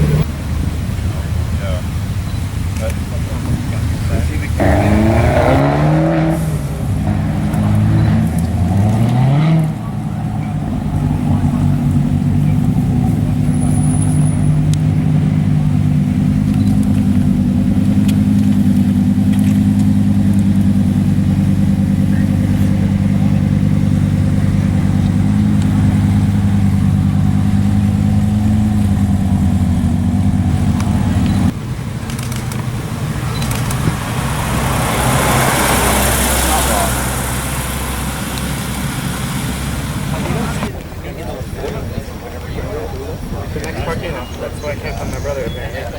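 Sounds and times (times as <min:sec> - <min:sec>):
car engine revving: 0:00.0 - 0:40.8.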